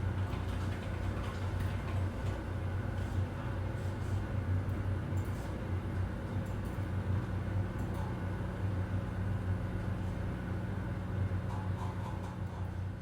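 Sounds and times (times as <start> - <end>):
ventilation hum: 0.0 - 13.0.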